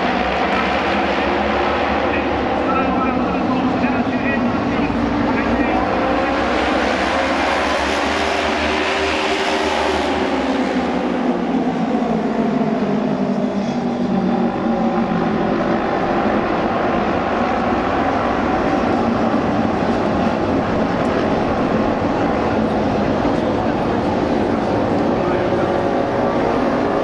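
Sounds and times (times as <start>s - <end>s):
motorcycle engines droning: 0.0s - 27.0s.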